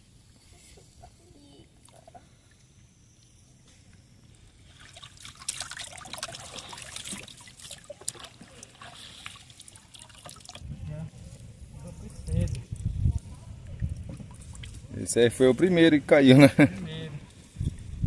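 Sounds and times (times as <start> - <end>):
water splashing and trickling: 1.5 - 2.8, 3.9 - 18.0.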